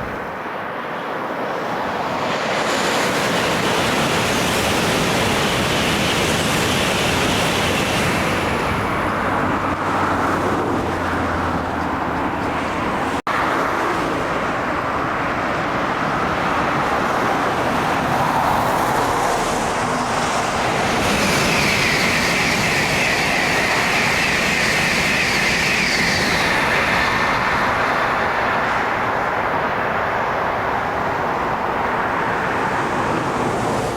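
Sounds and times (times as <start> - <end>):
high-speed train passing: 0.0 - 33.9
road traffic: 0.0 - 33.9.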